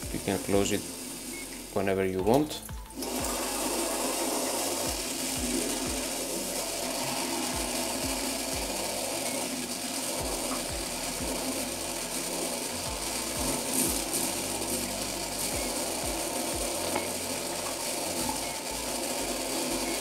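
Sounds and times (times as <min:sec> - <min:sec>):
pump pulsing low: 0:00.0 - 0:20.0
water spraying hiss: 0:00.0 - 0:20.0.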